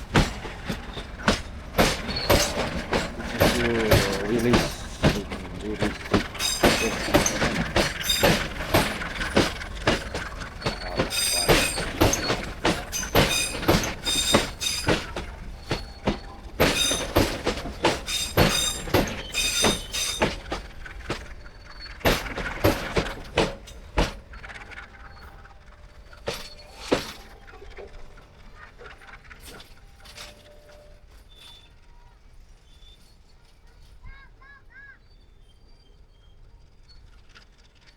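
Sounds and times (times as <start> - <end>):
train wheels clacking over rail joints: 0.0 - 34.2.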